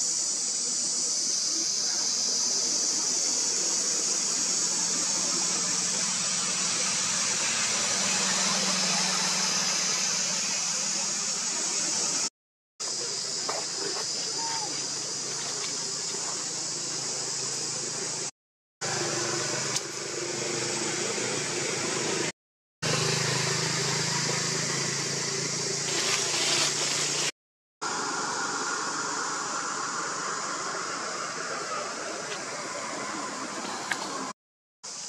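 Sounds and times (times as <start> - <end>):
outdoor background hiss: 0.0 - 34.3.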